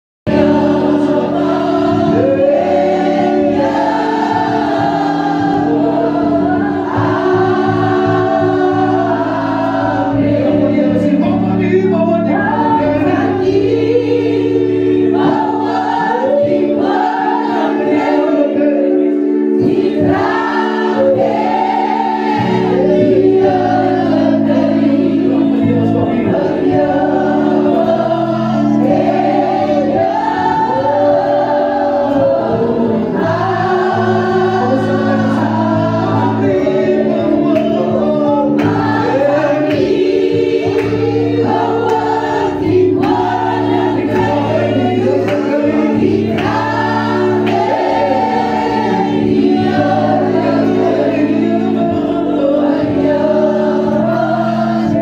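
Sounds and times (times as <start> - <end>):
electric keyboard chords: 0.2 - 55.0
congregation singing along: 0.3 - 55.0.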